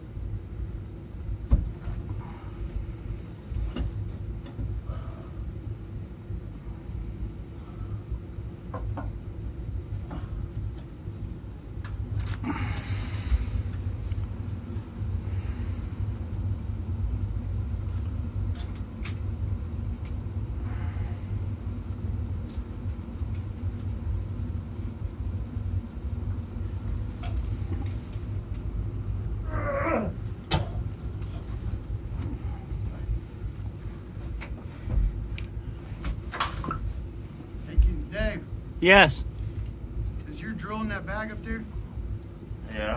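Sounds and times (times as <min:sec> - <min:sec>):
low rumble with faint hum: 0:00.0 - 0:42.9.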